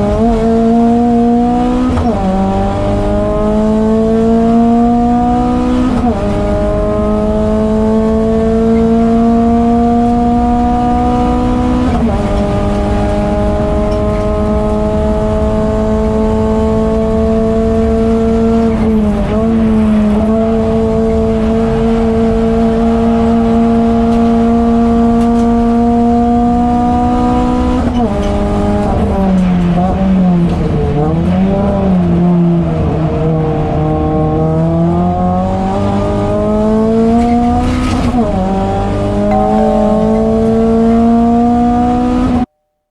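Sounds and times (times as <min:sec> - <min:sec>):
race car engine at full throttle: 0:00.0 - 0:42.4.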